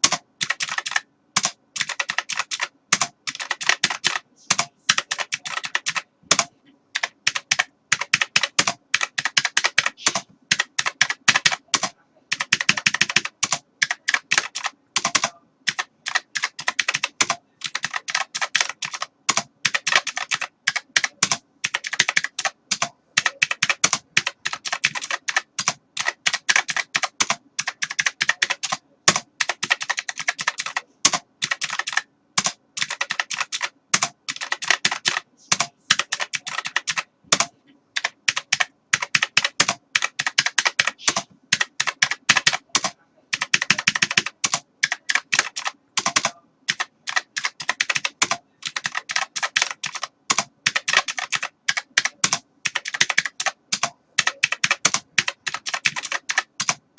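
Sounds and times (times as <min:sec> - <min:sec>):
keyboard typing: 0:00.0 - 0:56.9.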